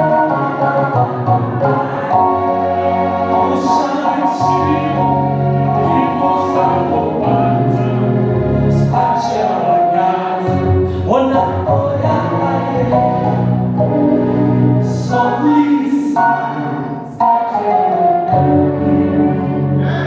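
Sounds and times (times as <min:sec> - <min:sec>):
congregation and choir singing: 0:00.0 - 0:20.0
instrumental backing: 0:00.0 - 0:20.0.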